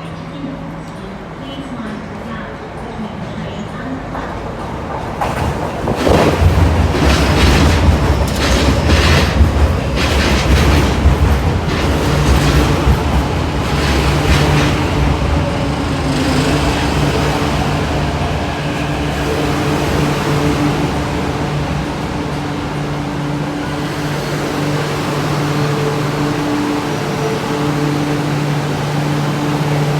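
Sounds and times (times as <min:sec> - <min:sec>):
train low hum: 0:00.0 - 0:29.9
train wheels clattering: 0:04.2 - 0:29.9.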